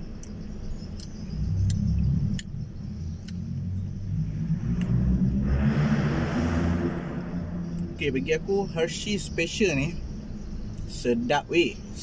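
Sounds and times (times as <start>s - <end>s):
car engine rumble from inside: 0.0s - 12.0s.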